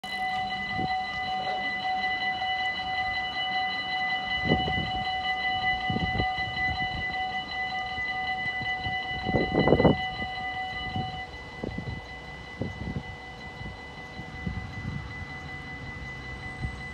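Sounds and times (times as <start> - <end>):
level crossing warning bell: 0.0 - 16.9.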